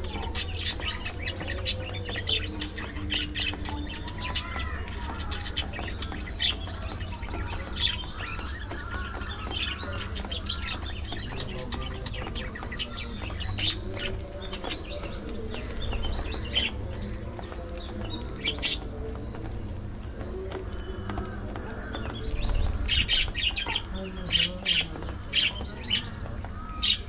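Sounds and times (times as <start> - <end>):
budgerigars chirping: 0.0 - 19.4, 20.1 - 27.0.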